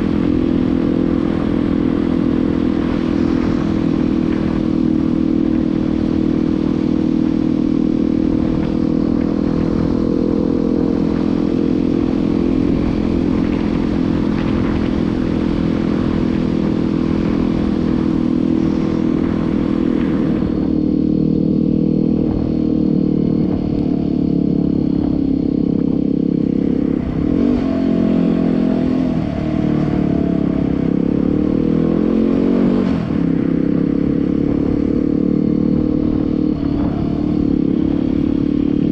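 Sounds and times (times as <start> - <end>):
motorcycle engine running: 0.0 - 38.9
rushing wind hiss: 0.0 - 38.9.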